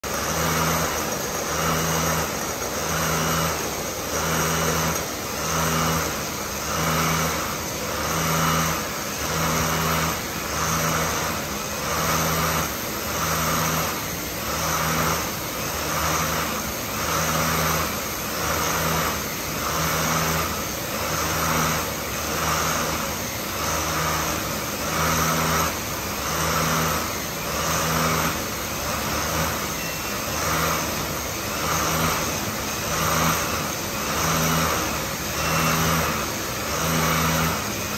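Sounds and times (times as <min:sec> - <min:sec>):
canning machinery din: 0:00.0 - 0:37.9
pulsing machine hum: 0:00.0 - 0:37.9.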